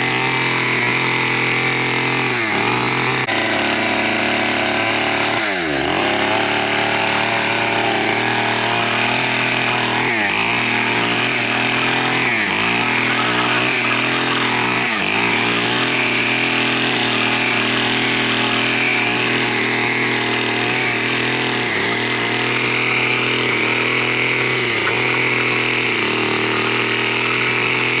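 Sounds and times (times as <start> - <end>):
power tool motor bogging: 0.0 - 28.0.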